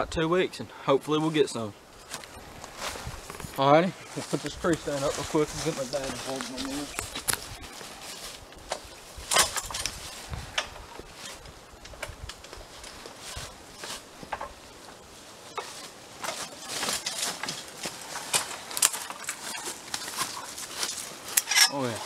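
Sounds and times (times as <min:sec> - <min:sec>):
footsteps crunching dry leaves: 0:01.9 - 0:22.0.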